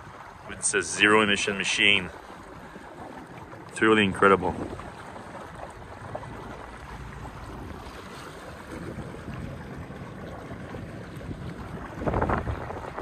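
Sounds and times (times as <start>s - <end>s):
water splashing along hull: 0.0s - 13.0s.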